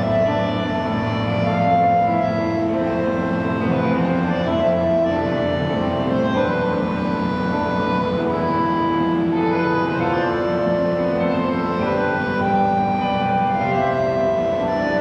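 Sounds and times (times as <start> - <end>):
concertina playing slow tune: 0.0 - 15.0.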